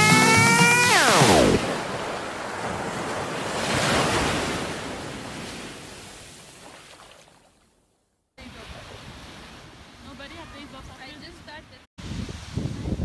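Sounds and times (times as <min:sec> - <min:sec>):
small waves breaking on beach: 0:01.0 - 0:07.8, 0:08.4 - 0:13.0.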